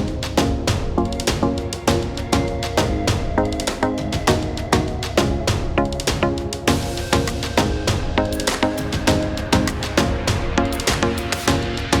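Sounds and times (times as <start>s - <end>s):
music with fast percussive beat: 0.0s - 12.0s.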